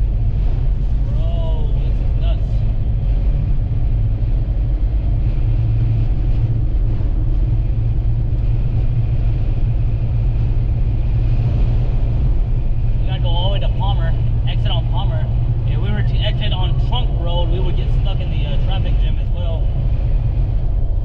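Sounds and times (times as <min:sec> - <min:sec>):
engine and road rumble: 0:00.0 - 0:21.0.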